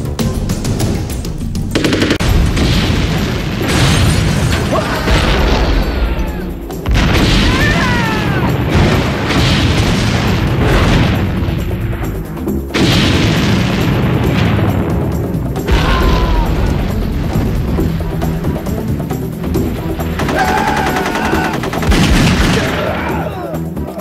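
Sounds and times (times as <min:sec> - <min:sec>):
soundtrack music: 0:00.0 - 0:24.0
loud rumbling: 0:01.7 - 0:23.2
heavy explosion booms: 0:01.8 - 0:23.2.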